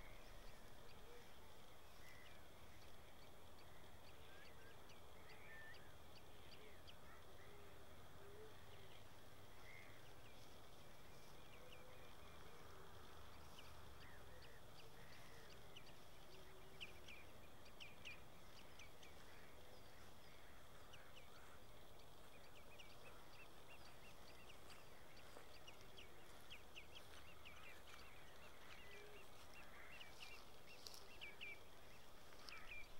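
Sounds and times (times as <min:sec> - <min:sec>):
lower soft bird calls: 0:00.0 - 0:32.9
steady outdoor hiss: 0:00.0 - 0:32.9.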